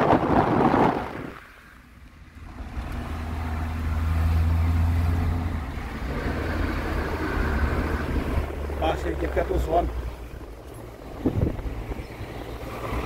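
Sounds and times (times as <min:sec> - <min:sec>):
car engine hum inside cabin: 0:00.0 - 0:13.0
wind buffeting microphone: 0:00.0 - 0:13.0.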